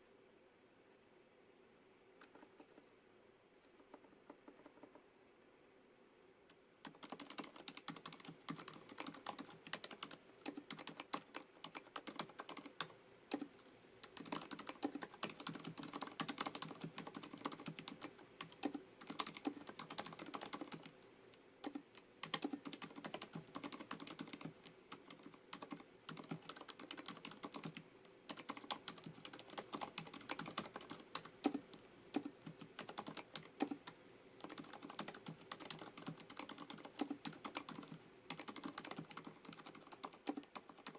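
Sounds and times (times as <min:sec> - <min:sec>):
typing on mechanical keyboard: 0:02.2 - 0:02.8, 0:03.8 - 0:05.0, 0:06.8 - 0:20.9, 0:21.6 - 0:40.9.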